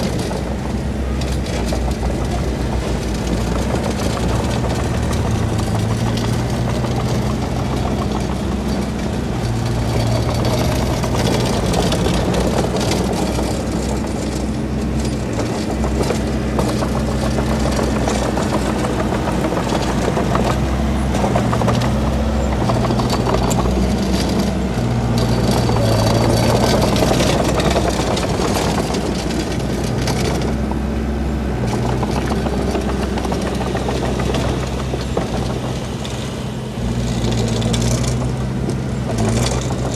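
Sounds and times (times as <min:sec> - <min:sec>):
machine clanking and rattling: 0:00.0 - 0:30.8, 0:31.5 - 0:39.9
diesel engine hum: 0:00.0 - 0:39.9.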